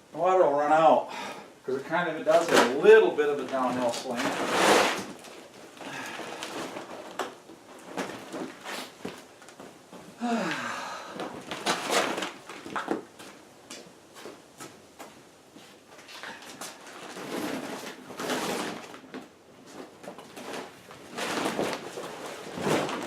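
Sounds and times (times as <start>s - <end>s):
mat rustling and scraping on concrete: 2.0s - 10.6s, 11.2s - 23.0s.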